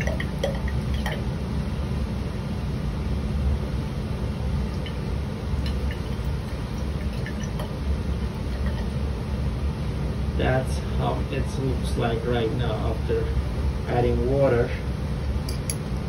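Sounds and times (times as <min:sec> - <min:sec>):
fume hood exhaust rumble: 0:00.0 - 0:16.0.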